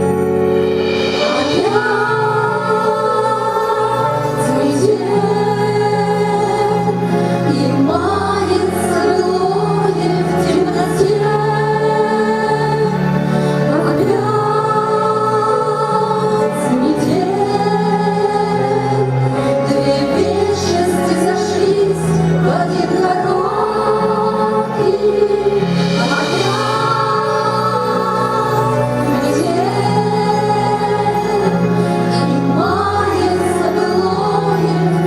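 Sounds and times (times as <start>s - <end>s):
slow song with voices: 0.0s - 35.0s.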